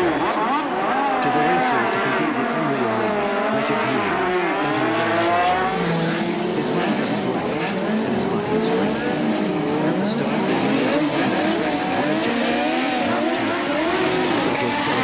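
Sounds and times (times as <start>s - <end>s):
racing car engines revving: 0.0s - 15.0s.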